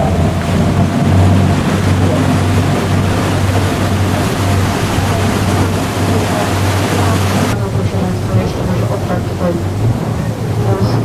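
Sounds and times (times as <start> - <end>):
motorboat engine droning: 0.0 - 11.0
water rushing and splashing: 0.0 - 11.0.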